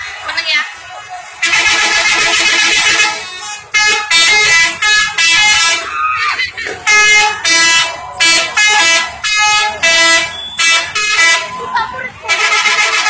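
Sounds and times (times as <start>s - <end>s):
musical bus horn blasts: 1.4s - 6.0s, 6.8s - 13.0s.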